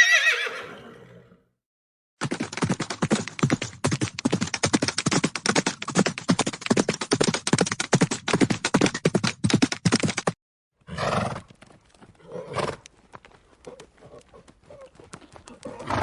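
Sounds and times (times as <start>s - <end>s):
horse hooves galloping: 2.2s - 16.0s.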